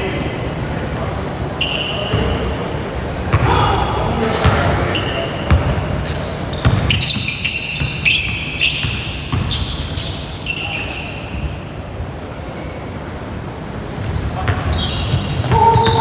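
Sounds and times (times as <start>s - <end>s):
sneaker squeaks: 0.4s - 2.6s, 4.4s - 13.4s, 14.0s - 16.0s.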